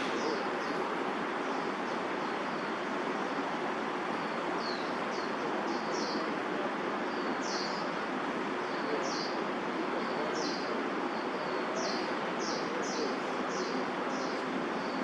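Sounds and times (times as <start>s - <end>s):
park background hiss: 0.0s - 15.0s.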